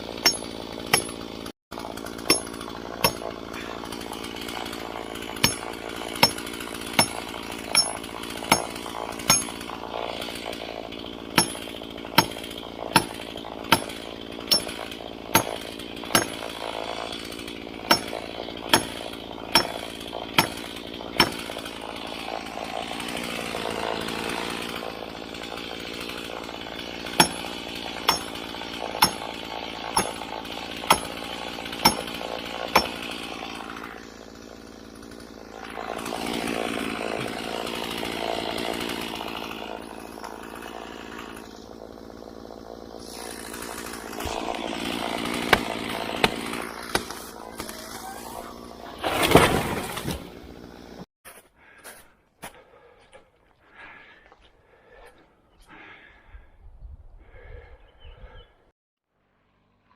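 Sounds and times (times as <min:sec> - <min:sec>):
chainsaw running: 0:00.0 - 0:51.1, 0:59.2 - 0:59.9.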